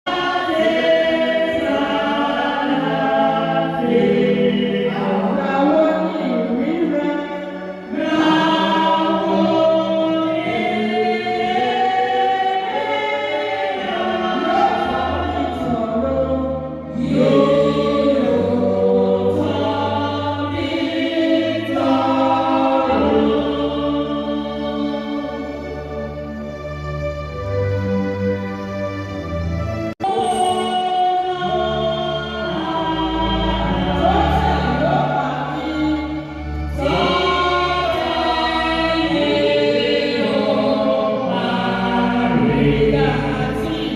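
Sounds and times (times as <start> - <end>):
choir singing a hymn in harmony: 0.1 - 27.5, 30.0 - 43.9.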